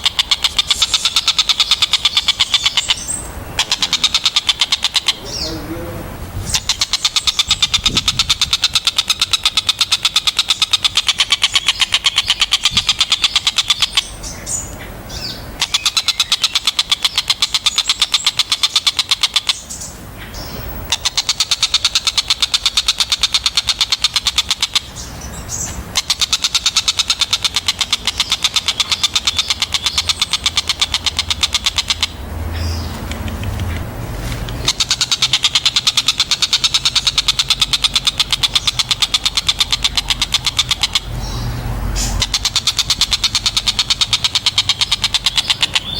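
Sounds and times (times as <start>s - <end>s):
kingfisher harsh repeated calls: 0.0s - 33.4s, 34.4s - 45.9s.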